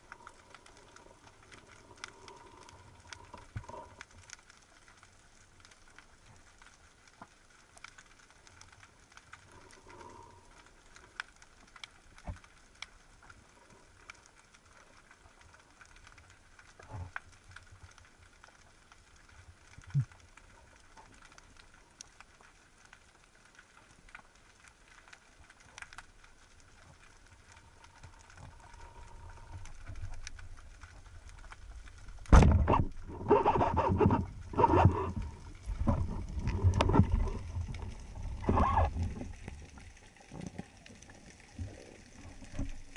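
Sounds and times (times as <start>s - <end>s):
faint underwater clicks: 0.0s - 42.9s.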